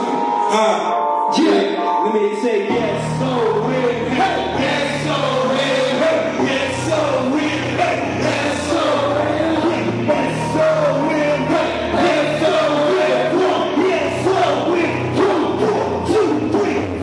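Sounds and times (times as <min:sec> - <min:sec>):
hip-hop backing track: 0:00.0 - 0:17.0
person singing: 0:00.0 - 0:17.0.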